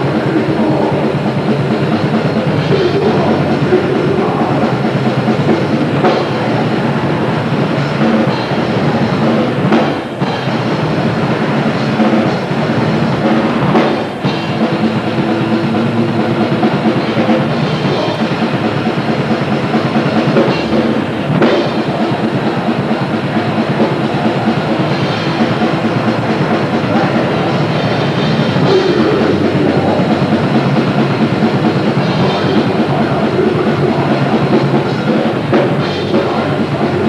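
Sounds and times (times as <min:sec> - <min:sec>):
distorted band playing live: 0:00.0 - 0:37.0
pounding drum kit: 0:00.0 - 0:37.0.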